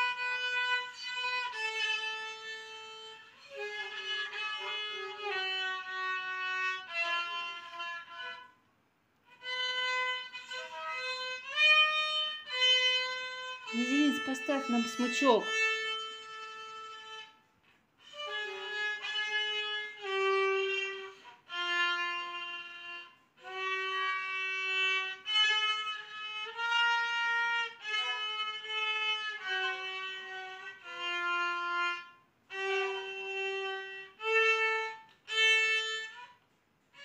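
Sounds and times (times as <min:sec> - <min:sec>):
violin playing slow melody: 0:00.0 - 0:08.6, 0:09.2 - 0:37.0.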